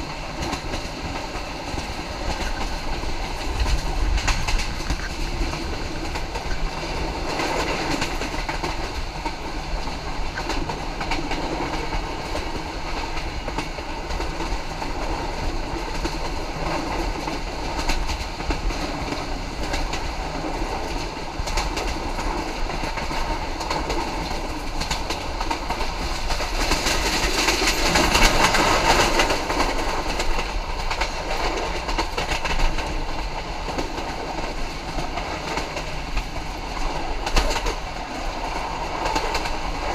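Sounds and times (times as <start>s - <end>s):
train wheels clickety-clack: 0.0s - 39.9s.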